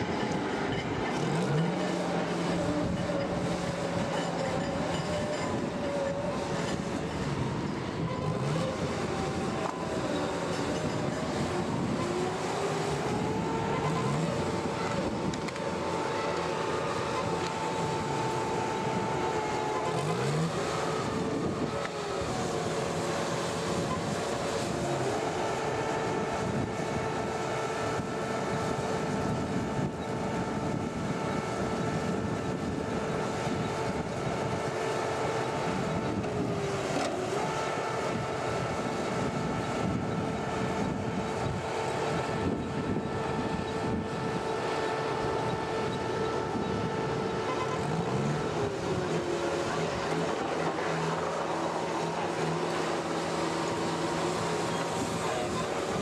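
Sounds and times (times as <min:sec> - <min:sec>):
diesel machinery engine whine: 0:00.0 - 0:56.0
low engine tones: 0:00.0 - 0:56.0.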